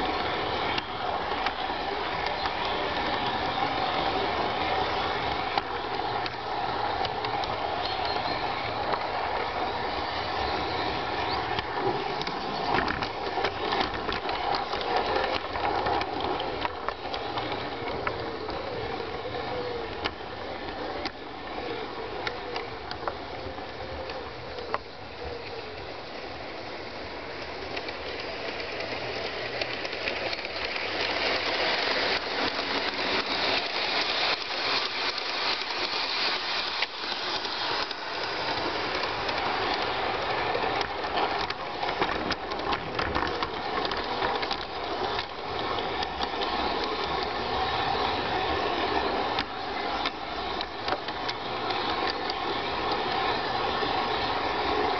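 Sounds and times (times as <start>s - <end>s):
model train rattling on track: 0.0s - 54.9s.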